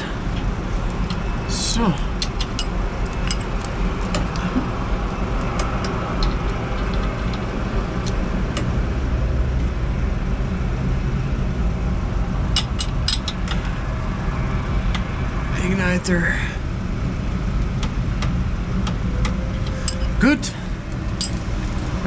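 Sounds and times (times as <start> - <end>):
machinery rumble: 0.0 - 22.0.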